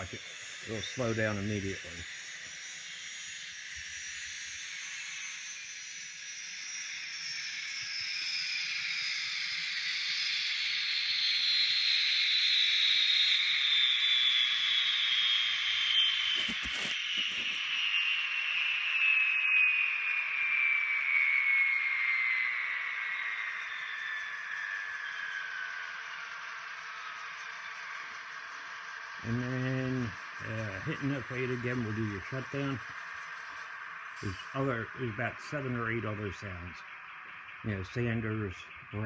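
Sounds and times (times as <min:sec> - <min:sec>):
turbine spooling down whine: 0:00.0 - 0:27.9, 0:28.5 - 0:39.0.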